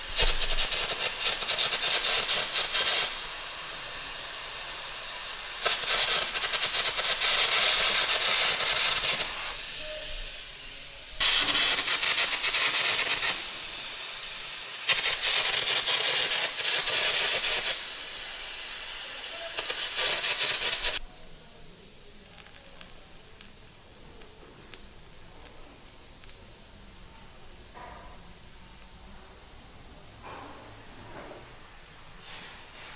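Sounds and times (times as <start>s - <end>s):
loud hissing metalworking machine: 0.0s - 32.9s.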